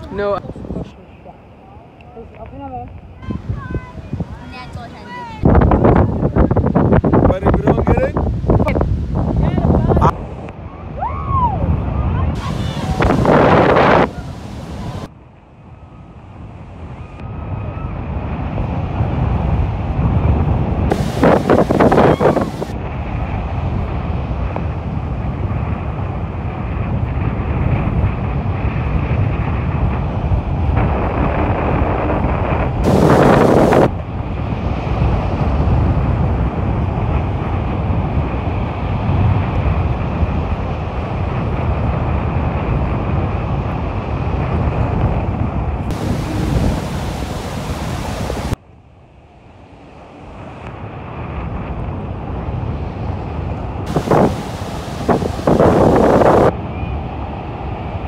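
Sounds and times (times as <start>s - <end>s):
wind buffeting microphone: 0.0s - 48.6s, 49.4s - 58.0s
ocean surf breaking: 3.0s - 15.1s, 17.9s - 48.6s, 49.4s - 58.0s.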